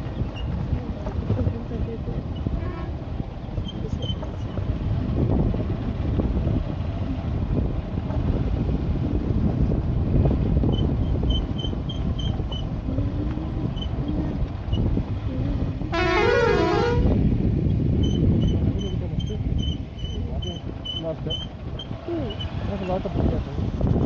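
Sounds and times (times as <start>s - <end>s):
motorcycle engine rumble: 0.0s - 24.0s
wind buffeting microphone: 0.0s - 24.0s.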